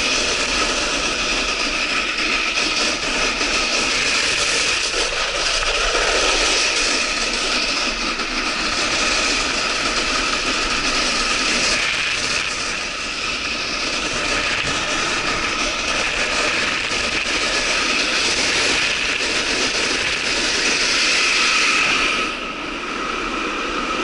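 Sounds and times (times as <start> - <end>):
scraping hiss of sliding on slush: 0.0 - 22.6
wind noise on microphone: 0.0 - 24.0.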